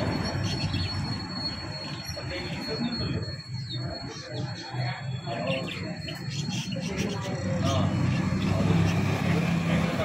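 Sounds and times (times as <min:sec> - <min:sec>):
high-pitched whine: 0:00.0 - 0:10.0
small birds chirping: 0:00.0 - 0:10.0.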